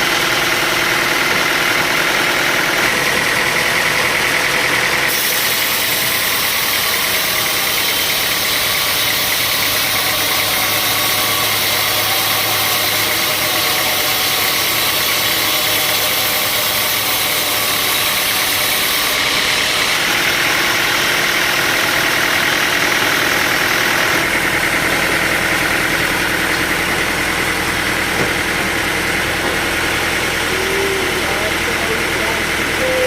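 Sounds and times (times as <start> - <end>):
sawmill machinery droning: 0.0 - 33.0.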